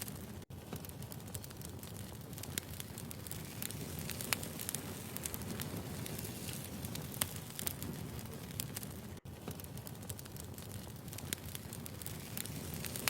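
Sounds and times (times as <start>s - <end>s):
sharp pops of burning logs: 0.0s - 13.0s
wood fire crackling: 0.0s - 13.0s.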